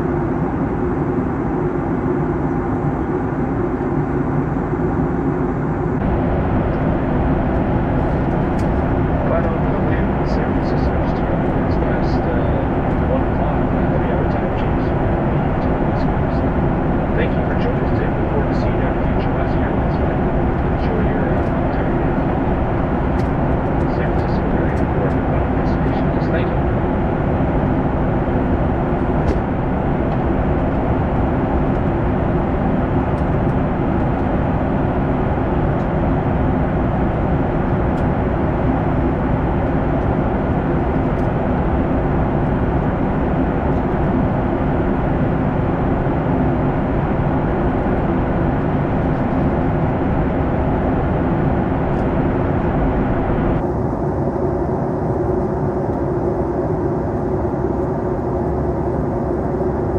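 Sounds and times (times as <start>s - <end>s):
airplane cabin engine rush: 0.0s - 59.9s
low hum: 0.0s - 59.9s.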